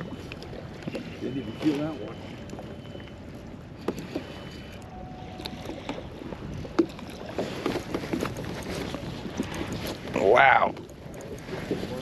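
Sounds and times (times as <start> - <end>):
small waves lapping against hull: 0.0 - 12.0.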